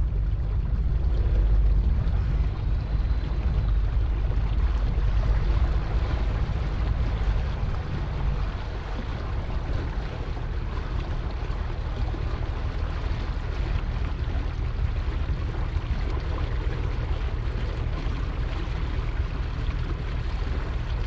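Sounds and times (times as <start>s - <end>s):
boat engine drone: 0.0s - 21.0s
water rushing past: 0.0s - 21.0s
wind on microphone: 0.0s - 21.0s.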